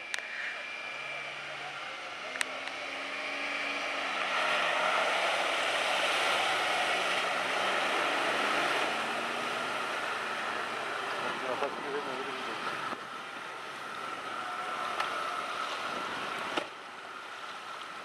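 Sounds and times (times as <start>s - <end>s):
off-road vehicle engine under load: 0.0s - 18.0s
water splashing and rushing: 2.1s - 18.0s.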